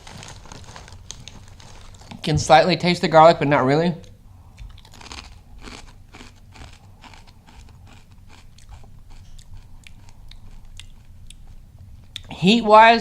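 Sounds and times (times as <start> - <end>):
person chewing crunchy chips: 0.0 - 2.2, 4.0 - 12.4.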